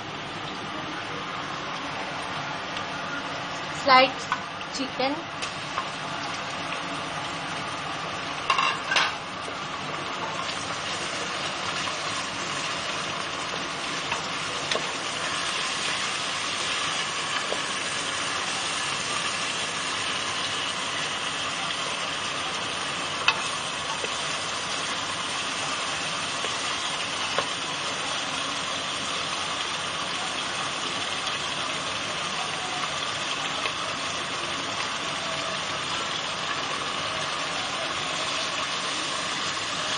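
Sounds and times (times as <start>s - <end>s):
chicken sizzling in a pan: 3.2s - 39.9s.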